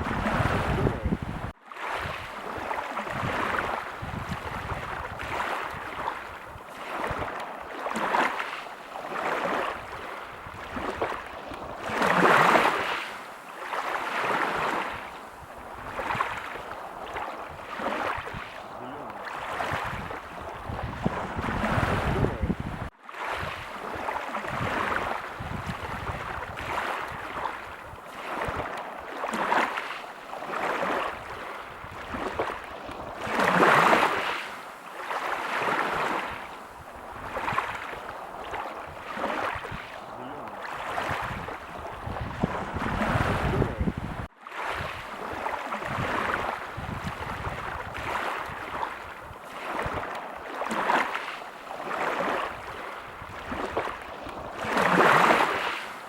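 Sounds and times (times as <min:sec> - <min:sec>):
waves washing onto a beach: 0:00.0 - 0:56.0.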